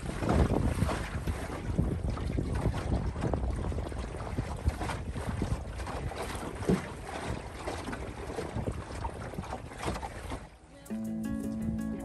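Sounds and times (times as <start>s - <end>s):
water slapping against hull: 0.0s - 10.7s
wind noise on microphone: 0.0s - 12.0s.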